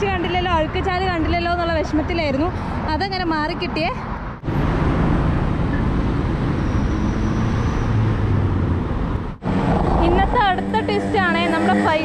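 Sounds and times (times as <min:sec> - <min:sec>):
city road traffic: 0:00.0 - 0:12.0.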